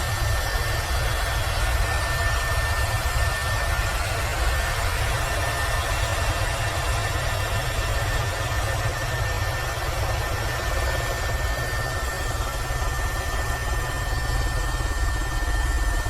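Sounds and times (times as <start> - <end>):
helicopter rotor flutter: 0.0 - 16.0
helicopter turbine whine: 0.0 - 16.0.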